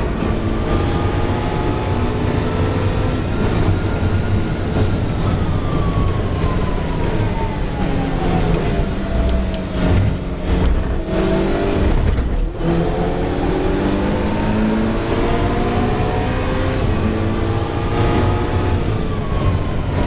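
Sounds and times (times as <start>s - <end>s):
race car engine at speed: 0.0s - 20.0s.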